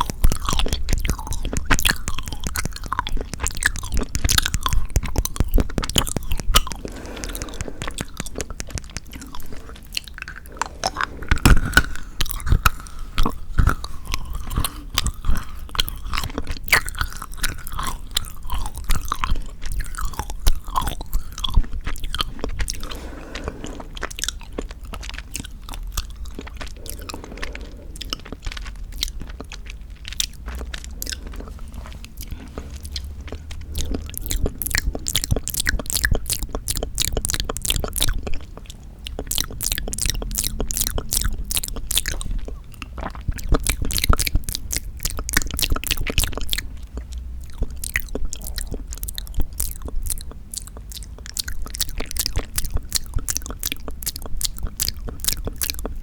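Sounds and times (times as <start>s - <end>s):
chewing chocolate crunches: 0.0s - 56.0s.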